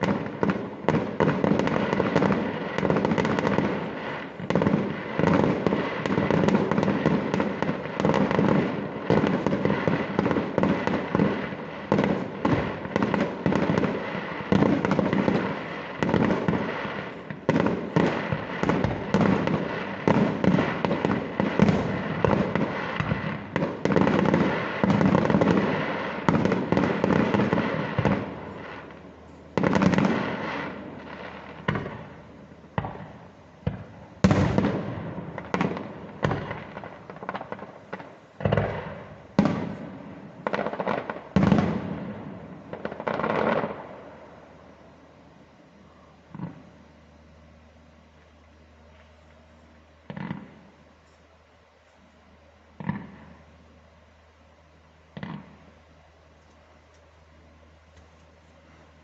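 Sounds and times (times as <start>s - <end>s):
fireworks bursts and bangs: 0.0s - 45.0s, 45.9s - 46.9s, 50.0s - 51.1s, 52.7s - 53.6s, 55.1s - 55.8s.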